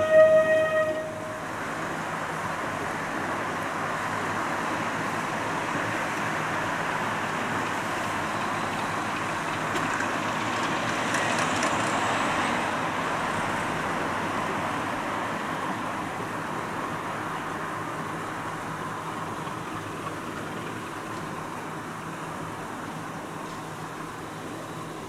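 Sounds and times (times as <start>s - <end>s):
distant diesel locomotive rumble: 0.0s - 25.0s
road traffic: 0.0s - 25.0s.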